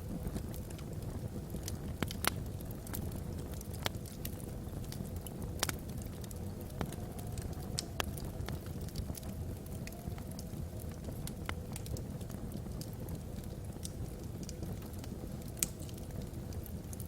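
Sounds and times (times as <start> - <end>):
faint wind whistling: 0.0 - 17.0
fire crackles and pops: 0.0 - 17.0
low rumble of flame: 0.0 - 17.0.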